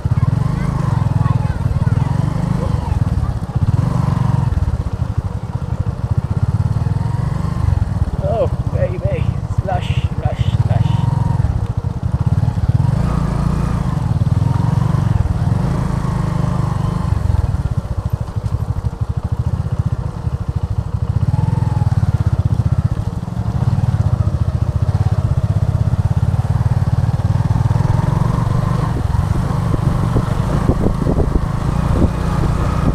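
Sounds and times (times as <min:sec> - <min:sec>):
motorcycle engine rumbling: 0:00.0 - 0:32.9.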